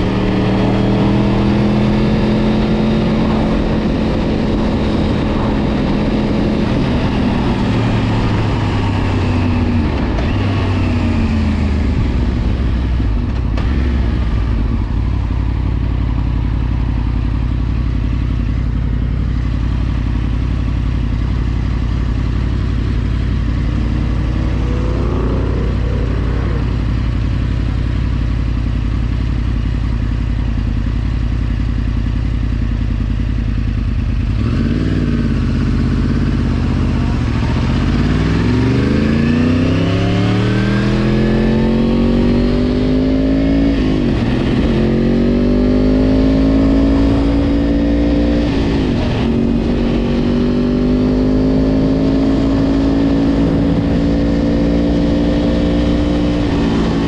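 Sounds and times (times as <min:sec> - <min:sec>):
motorcycle engine while riding: 0:00.0 - 0:57.0.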